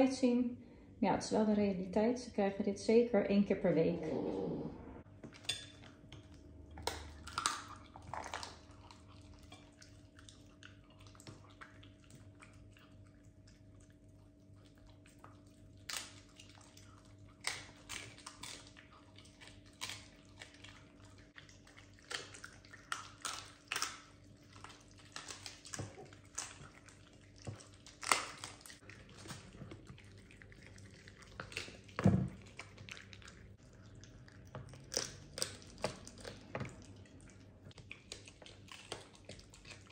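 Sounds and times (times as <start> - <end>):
faint steady hum: 0.0 - 39.9
dogs chewing bone: 5.2 - 39.9.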